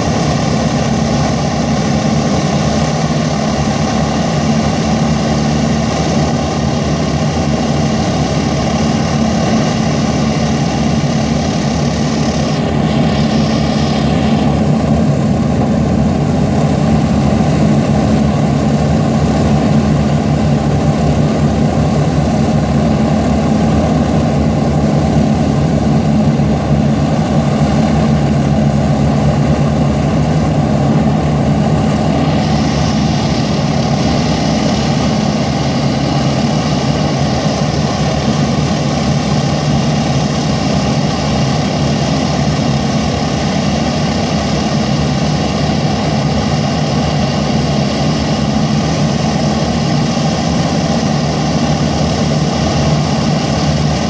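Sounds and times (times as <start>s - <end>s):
aircraft piston engines droning: 0.0s - 54.0s.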